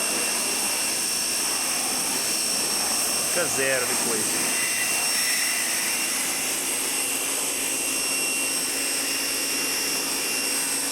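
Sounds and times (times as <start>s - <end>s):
air conditioner air rush: 0.0s - 10.9s
high-pitched whine tones: 0.0s - 10.9s.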